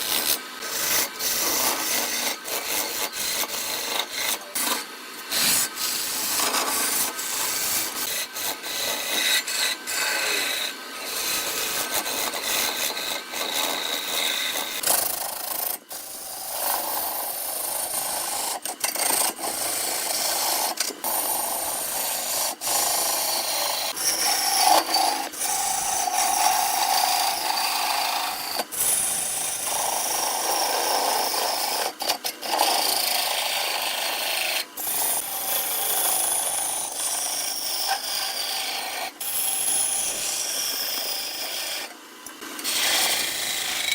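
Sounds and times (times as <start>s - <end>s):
lathe tool scraping wood: 0.0s - 43.9s.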